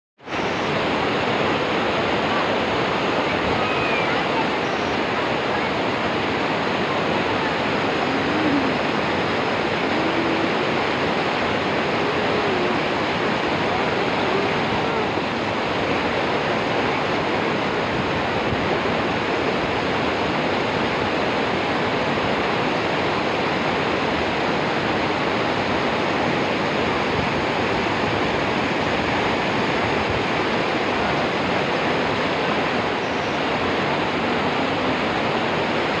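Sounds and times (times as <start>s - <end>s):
waterfall crashing: 0.2s - 36.0s.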